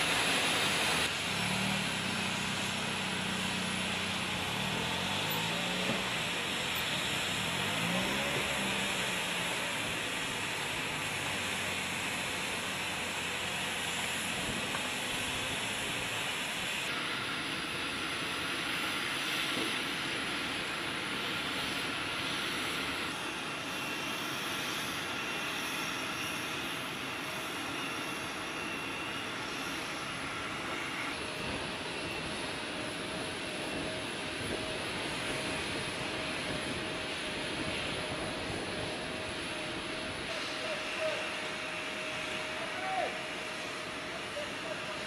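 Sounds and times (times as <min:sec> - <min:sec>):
jet turbine rushing with whine: 0:00.0 - 0:45.0.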